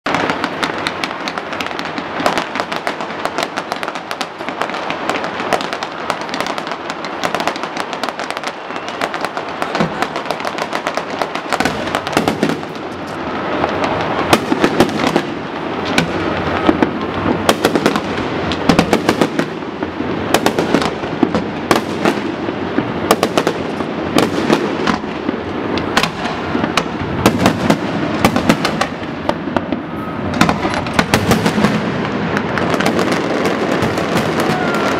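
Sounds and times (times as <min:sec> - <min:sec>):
crackling firework effects: 0:00.0 - 0:34.9
fireworks cracks and bangs: 0:00.0 - 0:34.9.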